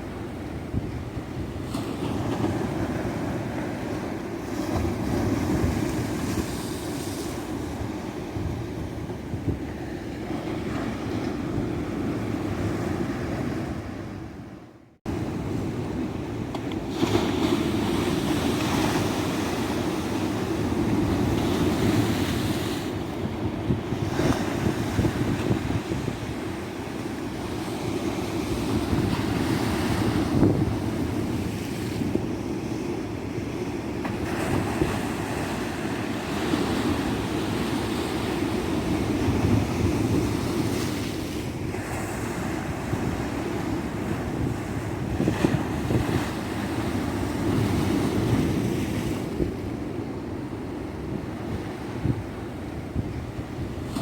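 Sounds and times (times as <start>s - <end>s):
waves breaking and washing in: 0.0s - 54.0s
wind rumbling on microphone: 0.0s - 54.0s.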